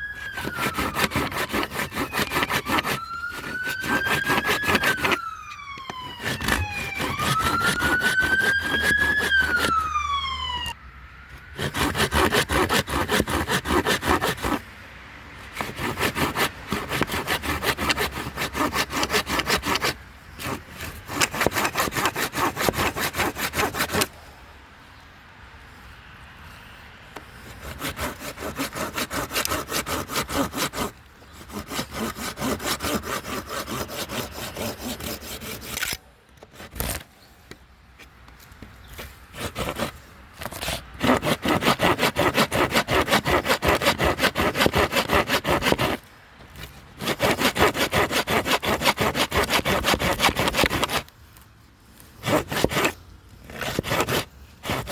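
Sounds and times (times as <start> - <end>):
hand saw cutting wood: 0.0 - 10.7, 11.4 - 14.7, 15.4 - 24.2, 27.2 - 37.1, 38.8 - 51.1, 52.0 - 54.9.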